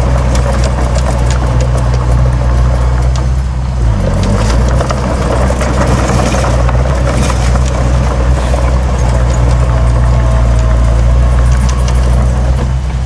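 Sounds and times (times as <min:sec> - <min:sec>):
clattering rattles and knocks: 0:00.0 - 0:13.0
diesel machinery engine drone: 0:00.0 - 0:13.0.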